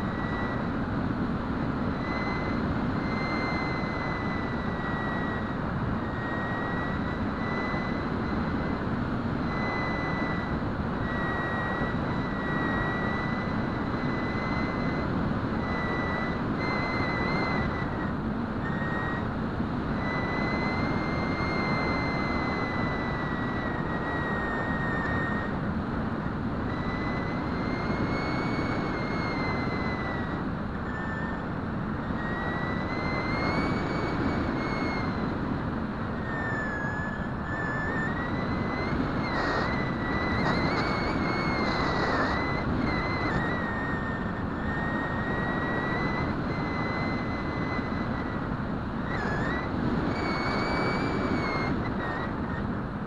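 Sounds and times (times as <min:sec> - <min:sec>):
wind rush on microphone: 0:00.0 - 0:53.0.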